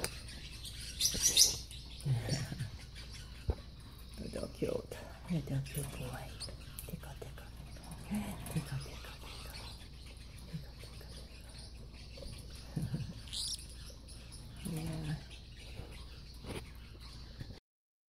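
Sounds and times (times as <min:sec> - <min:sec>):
parrotlet chirp: 0:00.0 - 0:04.3, 0:05.5 - 0:17.6.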